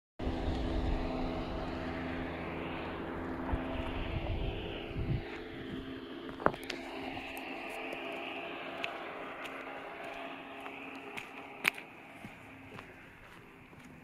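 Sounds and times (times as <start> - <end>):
engine drone: 0.2 - 14.0.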